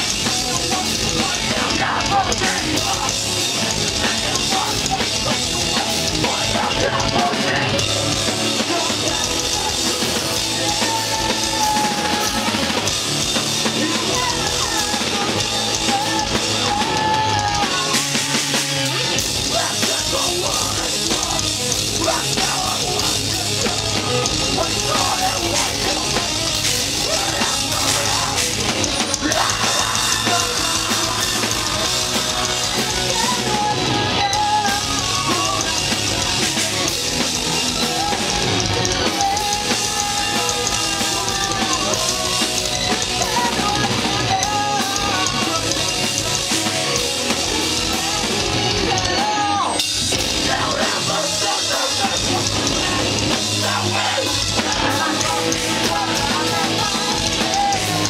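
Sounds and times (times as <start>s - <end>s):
rock band playing loudly: 0.0s - 58.0s.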